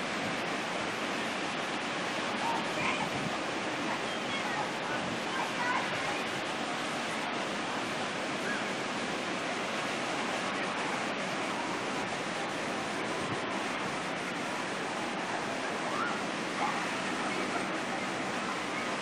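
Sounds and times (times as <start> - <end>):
distant surf breaking: 0.0 - 19.0.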